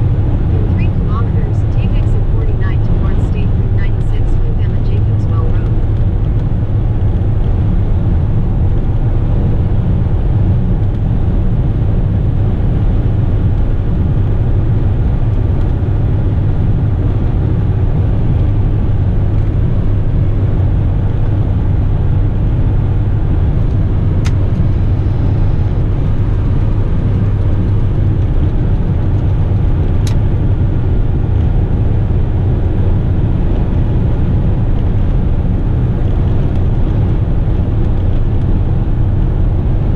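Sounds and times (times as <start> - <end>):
road and tyre noise: 0.0 - 39.9
truck diesel engine droning: 0.0 - 39.9.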